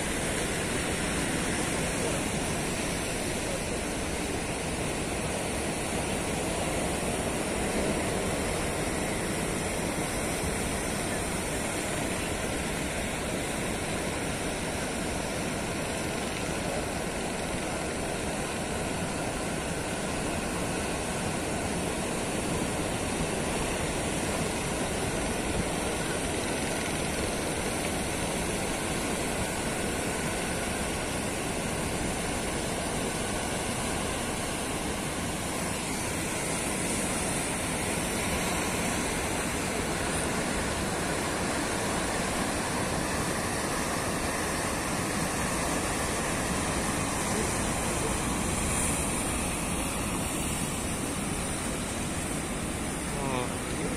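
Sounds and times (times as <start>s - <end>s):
ocean surf breaking: 0.0s - 53.9s.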